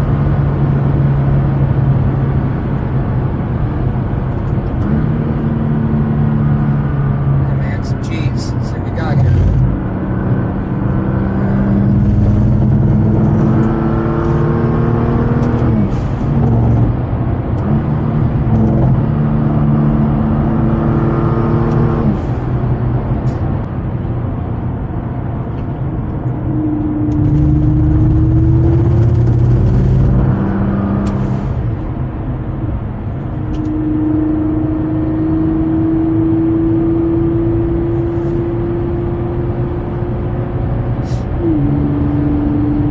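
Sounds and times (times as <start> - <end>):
car engine accelerating through gears: 0.0 - 23.9, 24.5 - 42.9.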